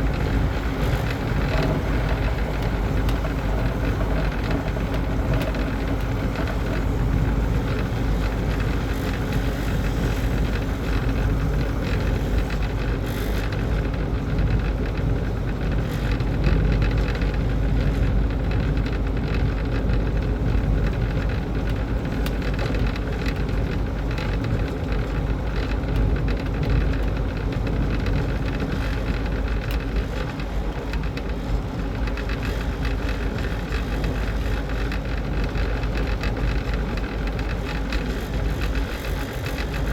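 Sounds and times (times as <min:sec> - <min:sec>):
machine running with low hum: 0:00.0 - 0:39.9.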